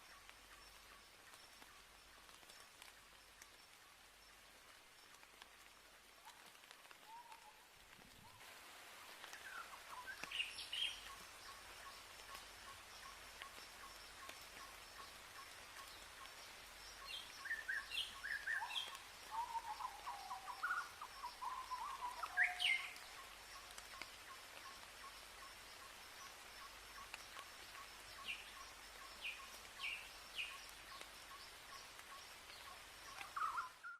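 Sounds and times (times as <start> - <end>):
faint steady hiss: 0.0 - 33.9.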